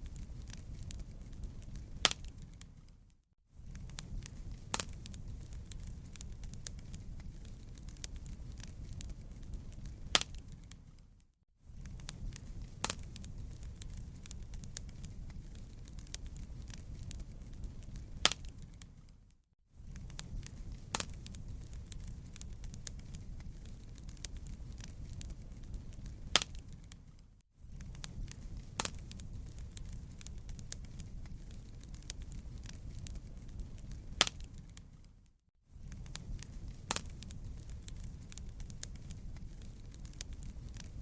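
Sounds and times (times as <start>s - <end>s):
fireplace fire crackling: 0.0s - 41.0s.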